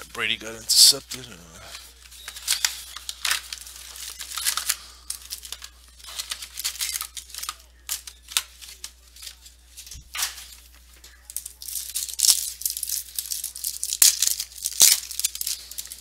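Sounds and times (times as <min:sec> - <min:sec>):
foil wrappers tearing and crinkling: 0:00.2 - 0:16.0.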